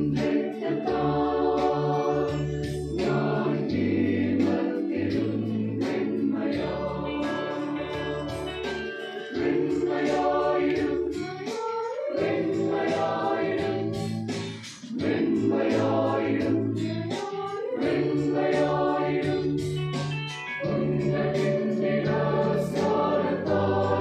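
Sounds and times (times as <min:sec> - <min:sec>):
men's choir singing a hymn: 0:00.0 - 0:08.5, 0:09.3 - 0:14.3, 0:14.9 - 0:19.7, 0:20.6 - 0:24.0.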